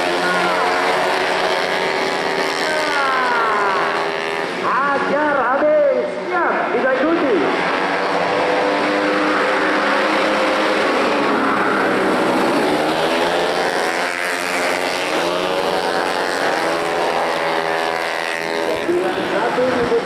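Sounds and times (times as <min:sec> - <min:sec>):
scooter engines revving: 0:00.0 - 0:20.0.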